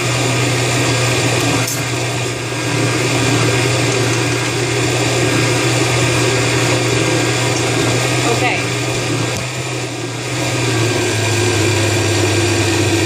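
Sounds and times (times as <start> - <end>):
blender motor whirring: 0.0 - 13.0.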